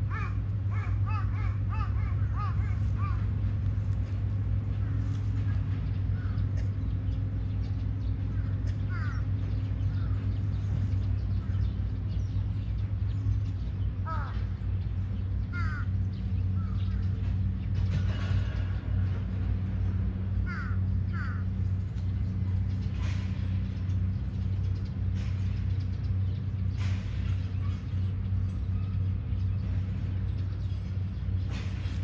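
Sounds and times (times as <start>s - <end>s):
birds calling: 0.0s - 32.0s
steady low hum: 0.0s - 32.0s.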